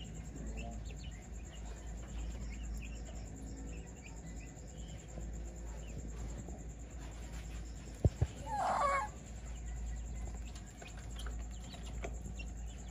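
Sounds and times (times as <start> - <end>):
faint high chirps: 0.0 - 12.9
steady low hum: 0.0 - 12.9.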